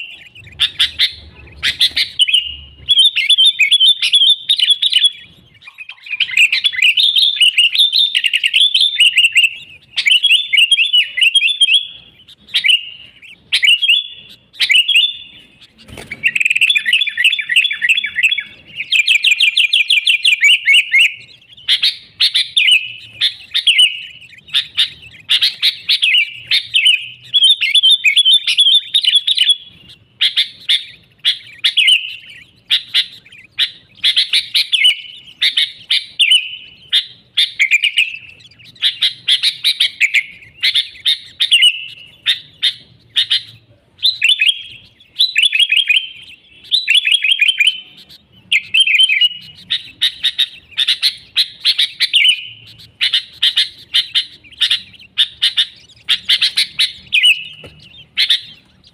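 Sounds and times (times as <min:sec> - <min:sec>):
bird singing chirpy notes: 0:00.0 - 0:58.9.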